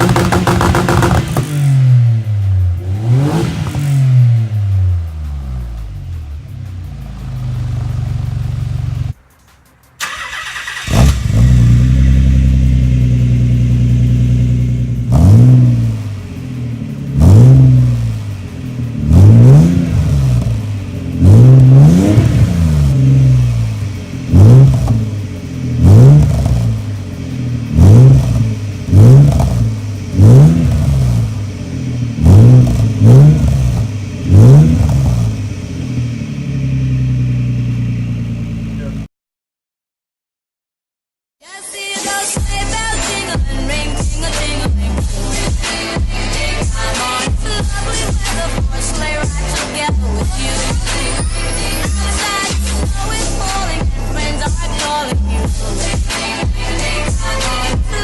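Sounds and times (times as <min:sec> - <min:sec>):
car exhaust revving: 0:00.0 - 0:09.2, 0:09.9 - 0:39.1, 0:42.5 - 0:58.0.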